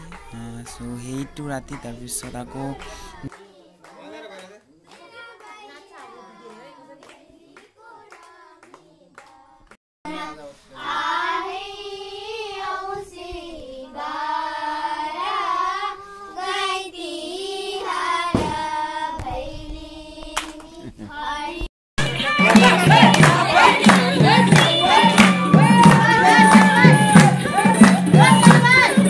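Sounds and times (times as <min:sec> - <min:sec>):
girls singing: 0:00.0 - 0:04.2, 0:05.0 - 0:29.0.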